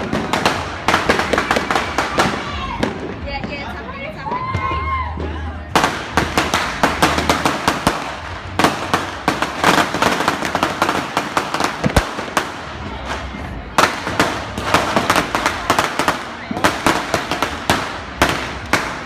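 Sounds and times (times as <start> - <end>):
firecrackers crackling: 0.0 - 19.0.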